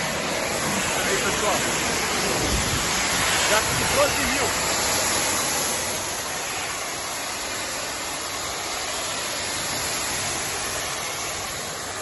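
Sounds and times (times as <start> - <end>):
pressure washer running: 0.0 - 12.0.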